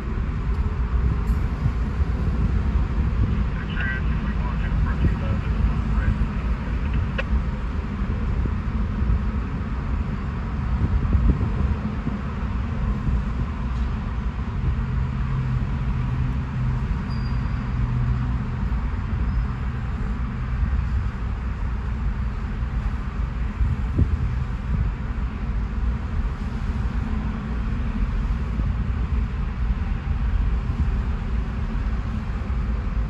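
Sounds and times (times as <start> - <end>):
freight train rumbling past: 0.0 - 33.0
steady low hum: 0.0 - 33.0.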